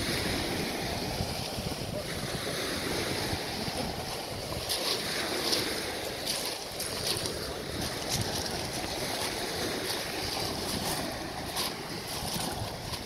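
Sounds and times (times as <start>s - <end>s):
small waves breaking on shingle: 0.0s - 13.0s
wind rumbling on microphone: 0.0s - 13.0s.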